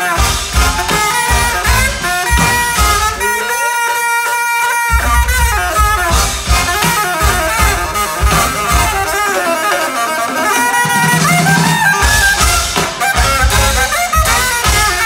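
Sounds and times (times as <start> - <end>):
drums: 0.0 - 15.0
low brass: 0.0 - 15.0
saxophone solo: 0.0 - 15.0.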